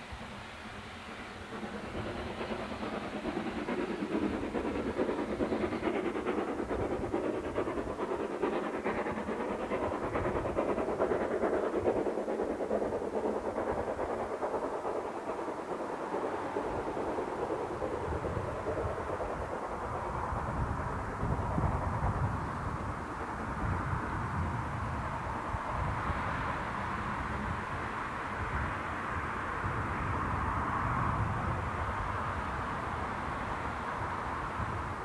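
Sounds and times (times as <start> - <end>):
steam train rumbling on rails: 0.0 - 35.0.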